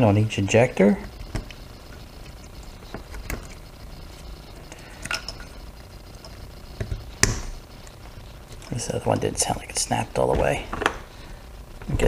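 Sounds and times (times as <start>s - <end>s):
wires being handled: 0.9s - 12.0s.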